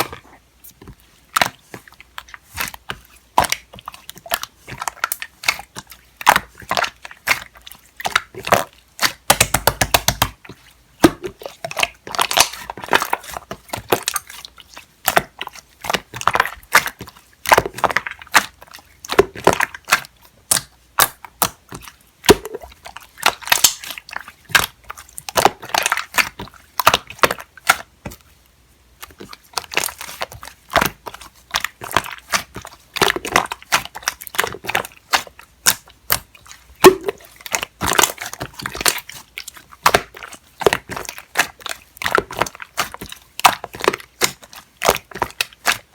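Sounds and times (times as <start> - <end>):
slime being squished by hand: 0.0 - 28.3, 29.0 - 45.9.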